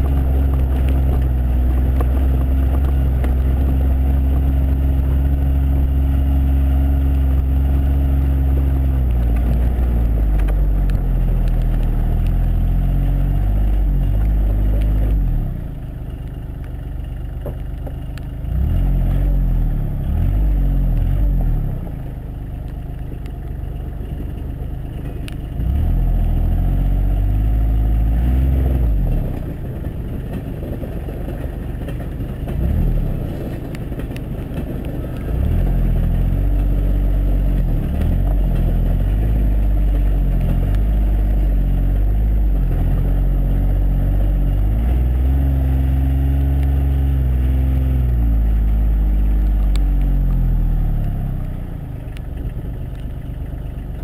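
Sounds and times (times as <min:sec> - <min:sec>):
diesel engine working hard: 0:00.0 - 0:54.0.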